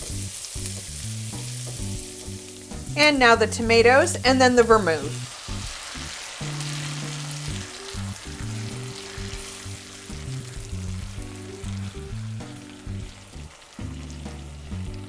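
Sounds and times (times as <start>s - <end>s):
music with held low notes: 0.0s - 15.0s
vegetables sizzling in butter: 0.0s - 15.0s.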